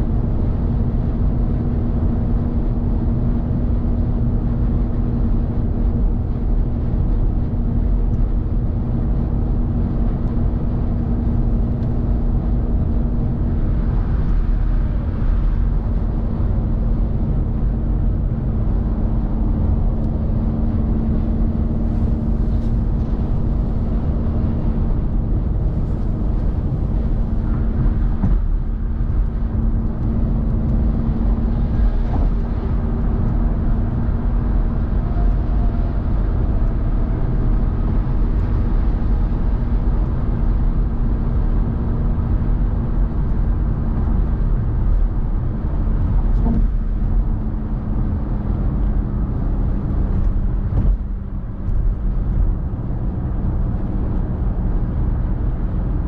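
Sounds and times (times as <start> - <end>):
car tyre and road noise: 0.0 - 56.0
low engine hum: 0.0 - 56.0.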